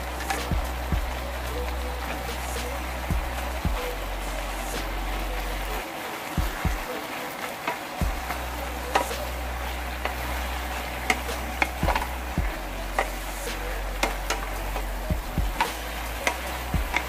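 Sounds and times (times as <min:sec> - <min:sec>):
low steady hum: 0:00.0 - 0:05.8, 0:08.0 - 0:17.0
food sizzling in a frying pan: 0:00.0 - 0:17.0.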